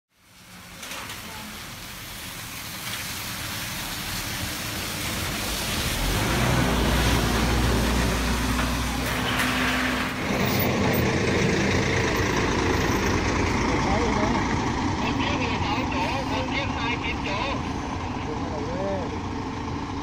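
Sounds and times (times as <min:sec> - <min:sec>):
diesel engine drone: 0:00.1 - 0:20.0
tyres hissing on wet road: 0:00.1 - 0:20.0.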